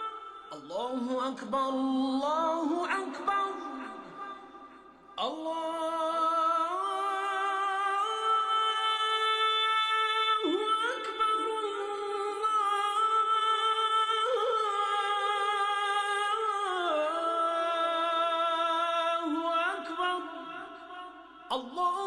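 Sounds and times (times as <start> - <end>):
person chanting: 0.0 - 22.0.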